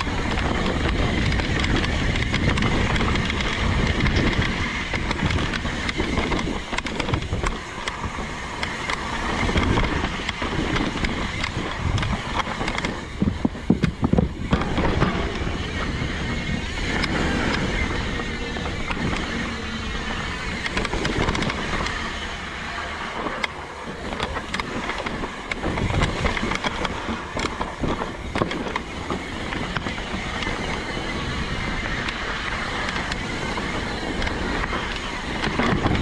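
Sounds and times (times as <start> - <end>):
tyres on dirt: 0.0 - 35.9
bike chain and frame rattling: 0.0 - 36.0
wind on microphone: 0.0 - 36.0.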